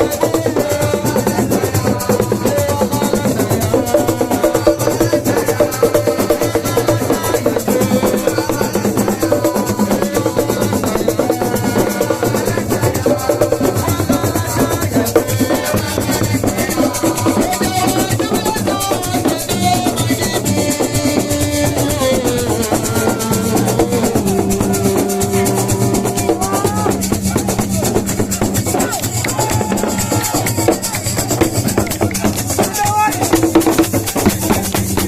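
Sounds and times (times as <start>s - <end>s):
drums: 0.0s - 35.0s
rattling shakers: 0.0s - 35.0s.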